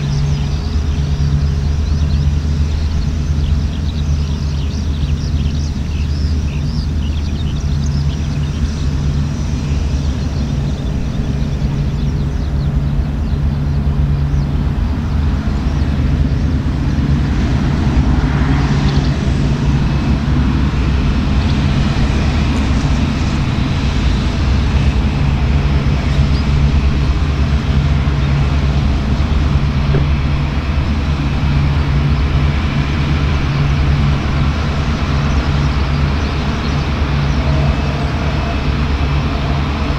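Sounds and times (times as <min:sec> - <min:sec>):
engine hiss: 0:00.0 - 0:39.9
jet engine drone: 0:00.0 - 0:39.9.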